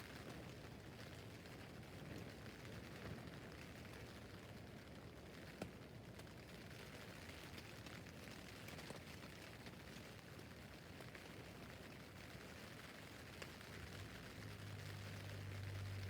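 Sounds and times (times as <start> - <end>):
rain hissing on tent: 0.0 - 16.0
raindrops ticking on fabric: 0.0 - 16.0.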